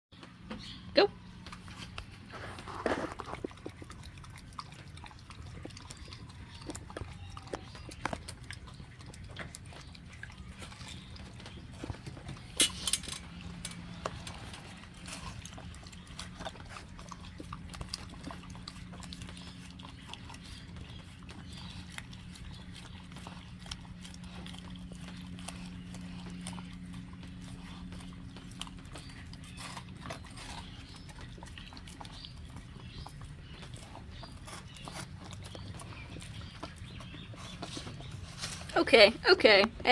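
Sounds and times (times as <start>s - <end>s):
animal chewing watermelon: 0.2s - 39.9s
faint low hum: 0.2s - 39.9s.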